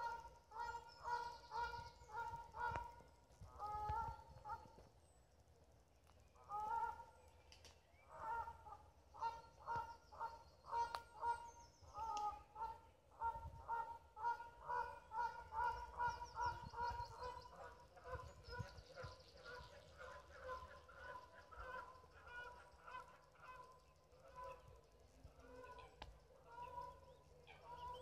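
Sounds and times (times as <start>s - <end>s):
geese honking: 0.0s - 4.8s, 6.4s - 7.1s, 8.1s - 28.0s.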